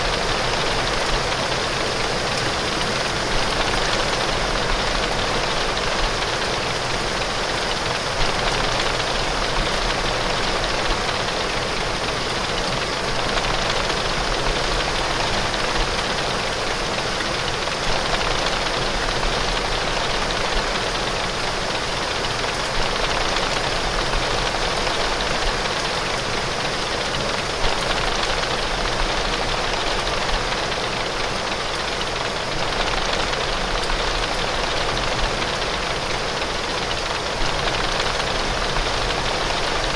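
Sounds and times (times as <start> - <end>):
heavy rain on window glass: 0.0 - 39.9.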